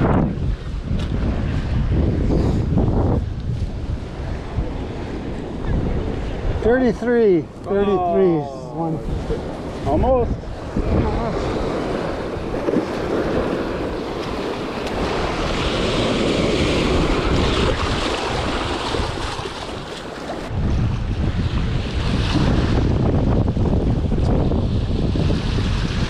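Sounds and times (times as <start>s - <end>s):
wind buffeting microphone: 0.0s - 26.0s
rushing water: 3.8s - 26.0s.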